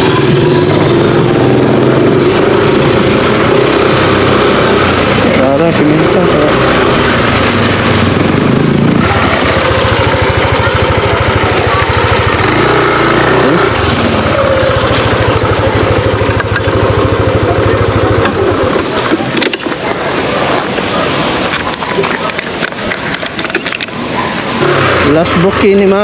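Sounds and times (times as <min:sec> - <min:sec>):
scooter engine running: 0:00.0 - 0:26.0.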